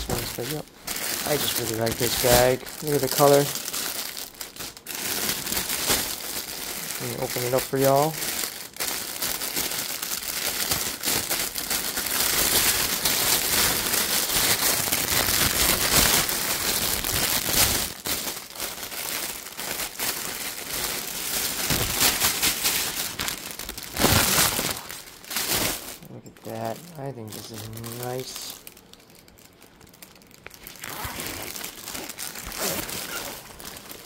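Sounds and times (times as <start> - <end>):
plastic bag crinkling: 0.0 - 34.0.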